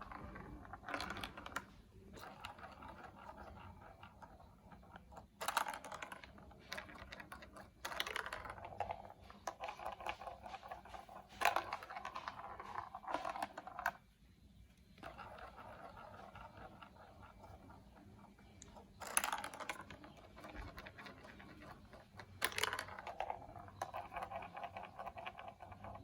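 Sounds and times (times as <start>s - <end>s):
plastic marble run pieces clicking: 0.0s - 14.0s, 15.0s - 26.0s.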